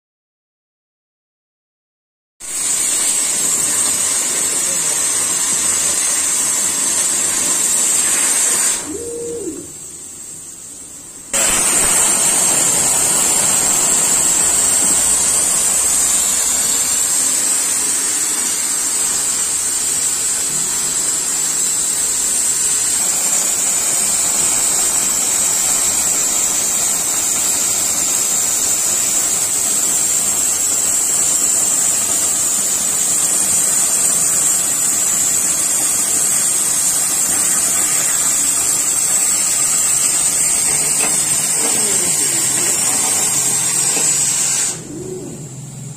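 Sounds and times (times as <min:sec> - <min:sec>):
cutting torch gas jet hissing: 0:02.4 - 0:45.9.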